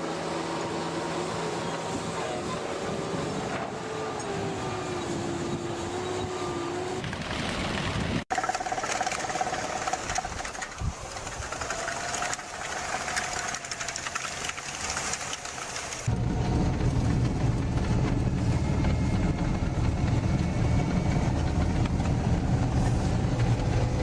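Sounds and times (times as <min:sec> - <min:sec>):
another engine: 0:00.0 - 0:24.0
engine running: 0:00.0 - 0:24.0.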